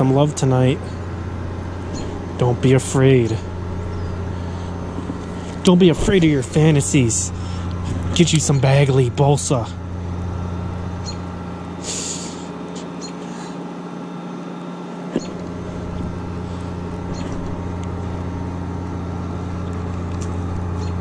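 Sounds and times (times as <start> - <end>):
electric trolling motor hum: 0.0 - 21.0.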